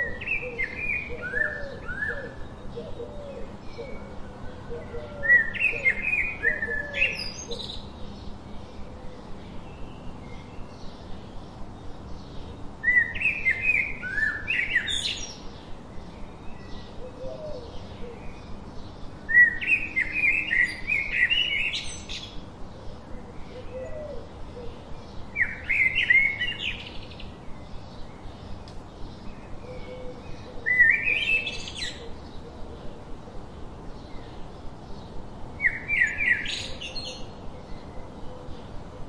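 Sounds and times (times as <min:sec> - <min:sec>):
faint birds chirping: 0:00.0 - 0:39.0
songbird singing: 0:00.0 - 0:39.0.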